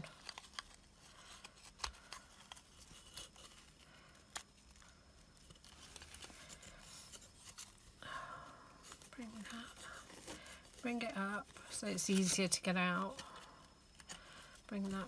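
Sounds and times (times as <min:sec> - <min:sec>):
ribbon rustling: 0:00.0 - 0:15.0.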